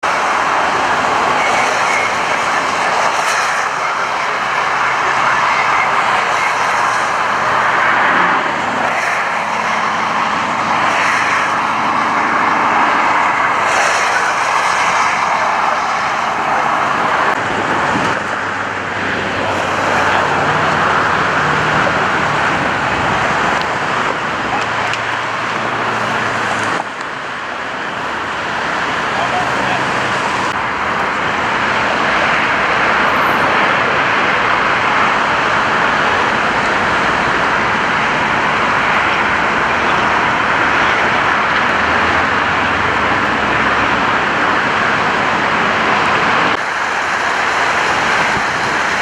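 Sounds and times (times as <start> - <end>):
freeway traffic noise: 0.0 - 49.0.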